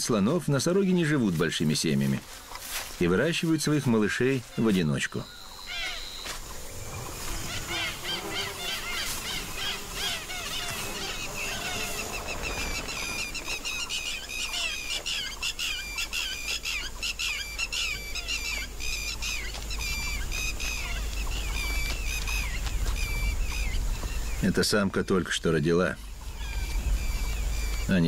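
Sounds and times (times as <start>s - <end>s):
birds calling and chirping: 0.0s - 28.0s.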